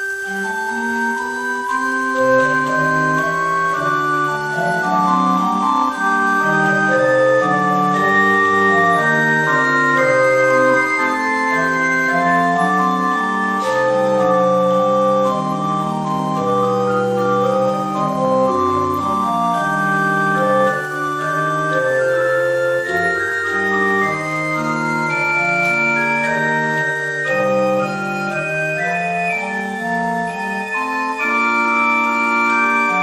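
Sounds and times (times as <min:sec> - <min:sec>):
pipe organ playing chords: 0:00.0 - 0:33.0.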